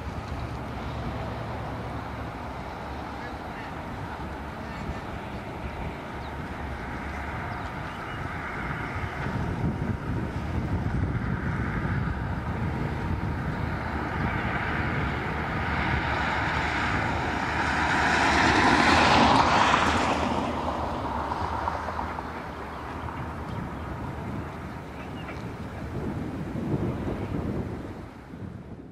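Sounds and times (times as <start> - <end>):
diesel train rumbling: 0.0 - 28.9.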